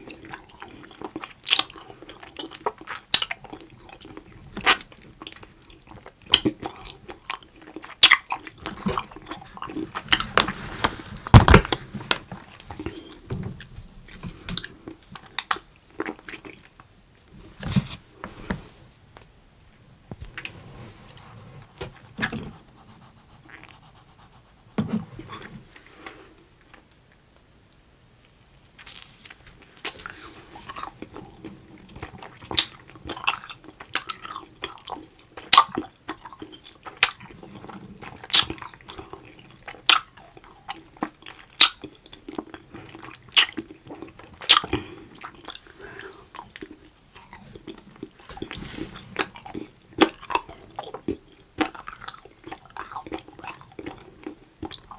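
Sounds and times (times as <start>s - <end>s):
chewing sticky candy: 0.0s - 11.6s, 14.6s - 17.3s, 22.2s - 24.7s, 26.6s - 54.9s.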